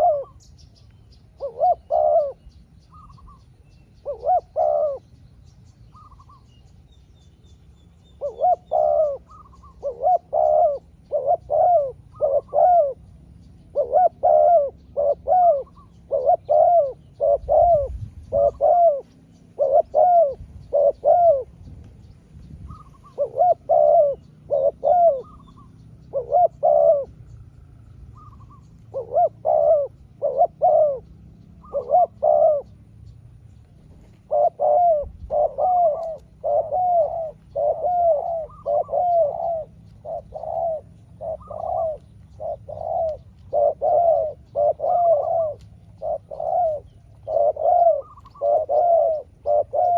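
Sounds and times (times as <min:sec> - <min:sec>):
dove cooing: 0:00.0 - 0:05.2, 0:05.8 - 0:06.5, 0:07.9 - 0:49.9.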